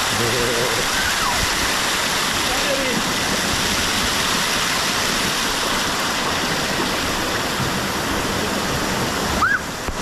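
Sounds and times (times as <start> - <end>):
water pouring and splashing: 0.0 - 10.0.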